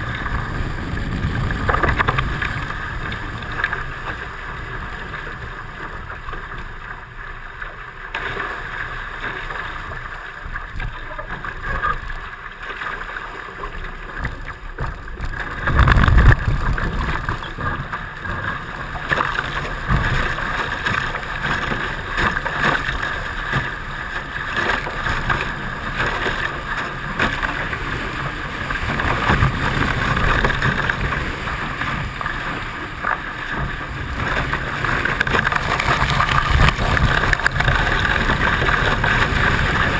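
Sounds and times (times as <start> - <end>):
wind on microphone: 0.0 - 6.6, 14.2 - 39.9
water along hulls: 0.0 - 39.9.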